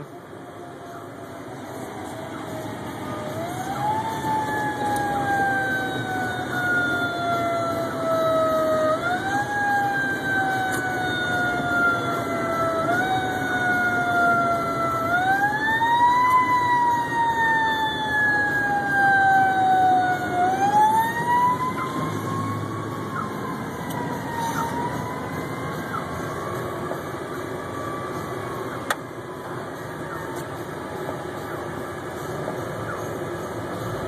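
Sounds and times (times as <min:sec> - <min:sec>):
fire engine siren wailing: 0:00.0 - 0:34.0
road noise: 0:00.0 - 0:34.0.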